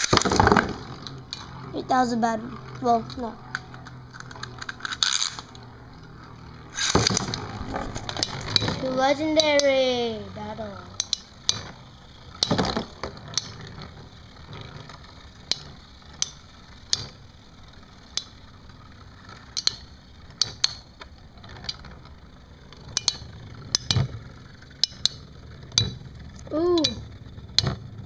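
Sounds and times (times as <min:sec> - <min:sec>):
spinning tops clacking: 0:00.0 - 0:28.0
spinning tops whirring: 0:00.0 - 0:28.0.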